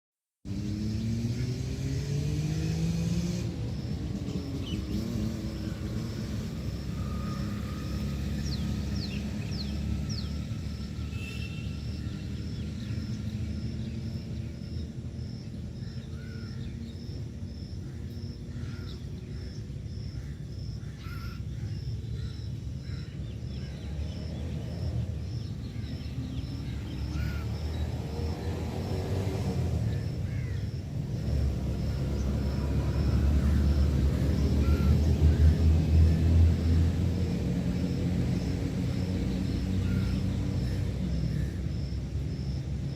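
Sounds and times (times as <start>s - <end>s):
vehicle engine revving: 0.4s - 20.2s, 21.0s - 42.9s.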